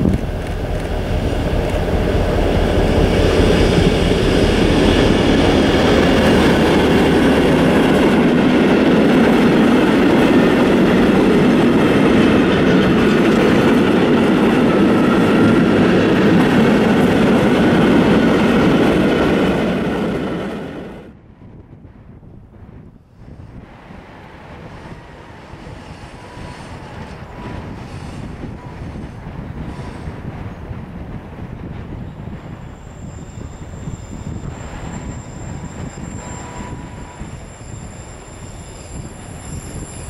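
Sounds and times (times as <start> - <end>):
diesel locomotive passing: 0.0 - 40.0.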